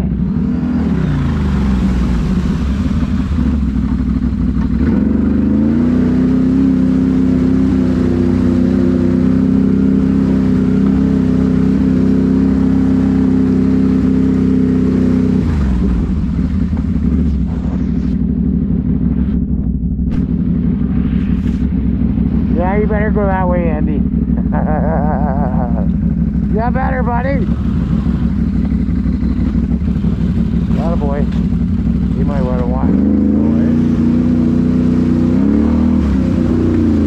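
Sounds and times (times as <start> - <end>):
engine revving while riding: 0.0 - 37.0.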